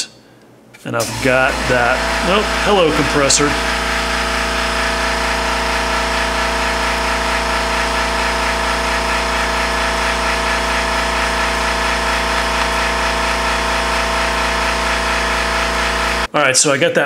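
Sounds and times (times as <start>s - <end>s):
air compressor running: 1.0s - 16.3s.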